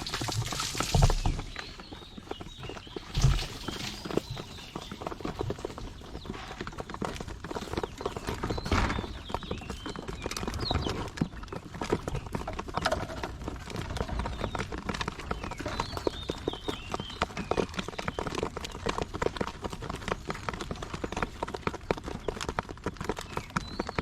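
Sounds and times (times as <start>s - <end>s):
quail tapping and clicking: 0.0s - 24.0s.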